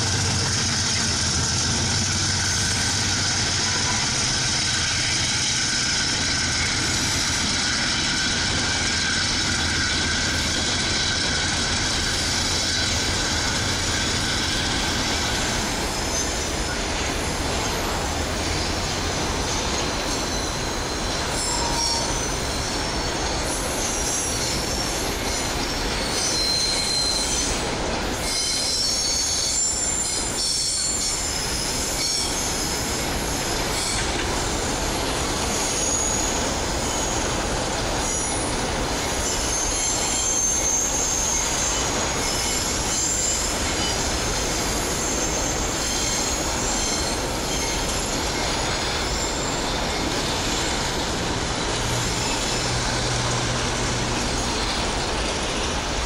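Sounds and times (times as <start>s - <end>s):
steel wheels squealing: 0.0s - 56.0s.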